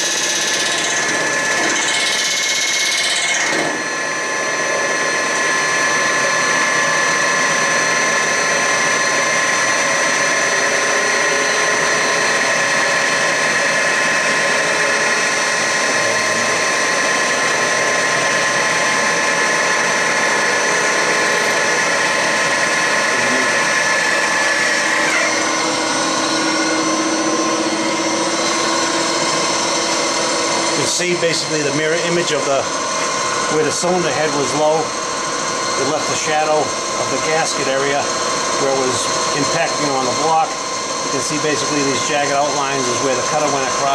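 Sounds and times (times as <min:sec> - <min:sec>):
machine cutter head whining: 0:00.0 - 0:43.9.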